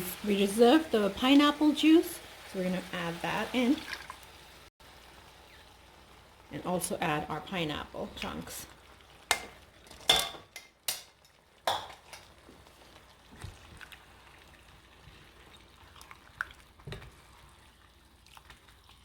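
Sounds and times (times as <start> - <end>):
sauce sizzling: 0.0 - 19.0.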